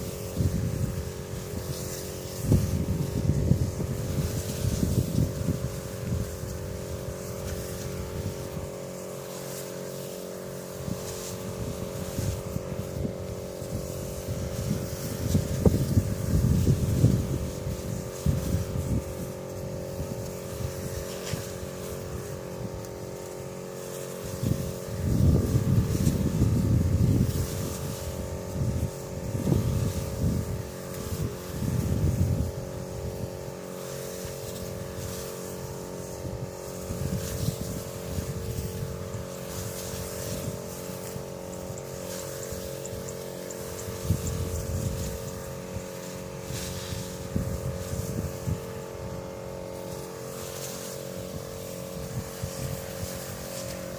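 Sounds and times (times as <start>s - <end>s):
steady motor hum: 0.0s - 53.9s.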